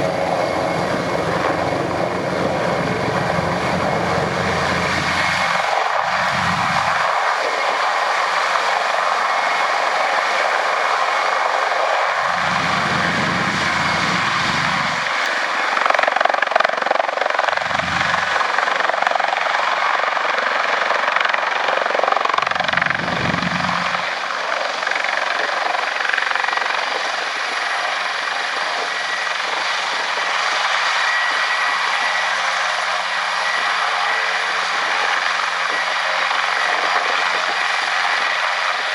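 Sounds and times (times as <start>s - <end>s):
helicopter engines and rotors: 0.0s - 38.9s.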